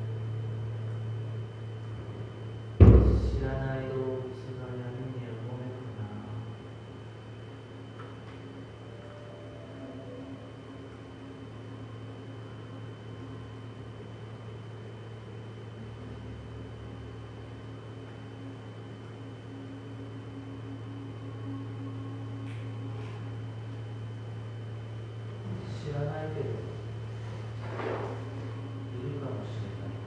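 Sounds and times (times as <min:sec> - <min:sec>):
low electronic hum: 0:00.0 - 0:30.0.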